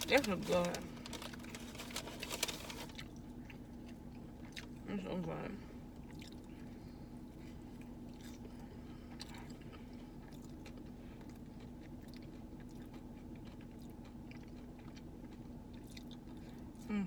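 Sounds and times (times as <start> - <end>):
chewing crispy fried chicken: 0.0 - 17.0
low steady hum: 0.0 - 17.0.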